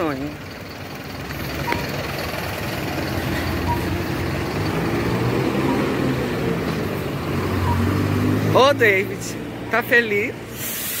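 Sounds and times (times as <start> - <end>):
large vehicle engine running: 0.0 - 10.7
street traffic: 0.0 - 11.0.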